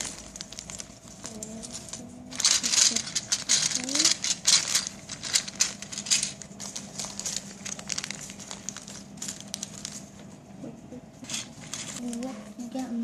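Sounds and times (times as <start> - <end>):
plastic bags crinkling: 0.0 - 10.3, 11.2 - 12.9.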